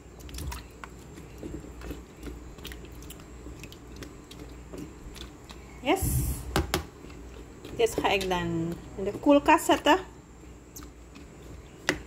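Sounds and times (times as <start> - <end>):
plastic spoon stirring fruit in brine: 0.0 - 12.0.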